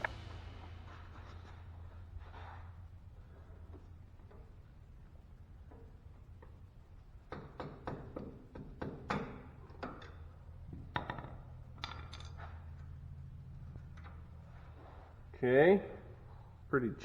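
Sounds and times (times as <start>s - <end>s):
steady low hum: 0.0s - 7.4s, 9.8s - 17.0s.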